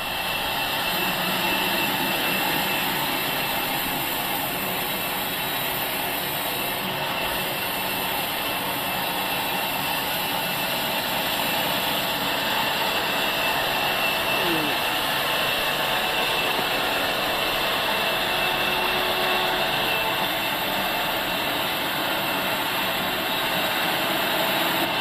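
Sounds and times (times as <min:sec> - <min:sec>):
high mechanical whine: 0:00.0 - 0:25.0
sawmill machinery running: 0:00.0 - 0:25.0.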